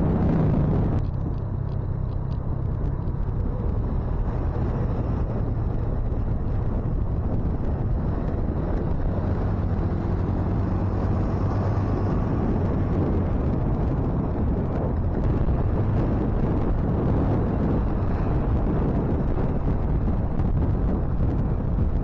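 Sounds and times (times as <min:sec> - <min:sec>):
motorcycle engine hum: 0:00.0 - 0:22.0
wind rumble on microphone: 0:00.0 - 0:22.0.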